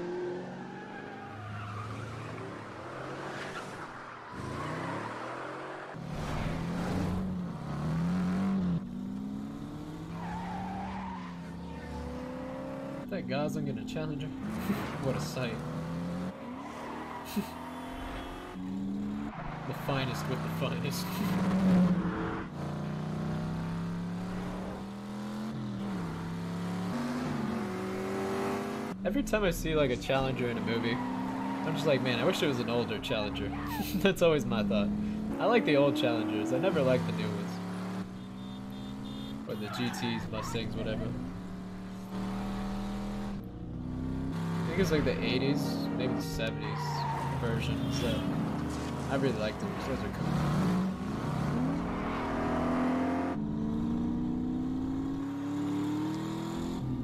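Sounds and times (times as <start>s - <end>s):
car engines revving: 0.0s - 57.0s
tyres skidding: 0.0s - 57.0s.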